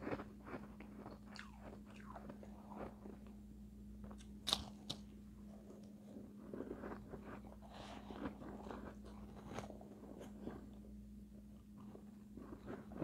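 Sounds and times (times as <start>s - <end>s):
chewing shaved ice crunches: 0.0s - 3.4s, 4.0s - 13.0s
steady low hum: 0.0s - 13.0s.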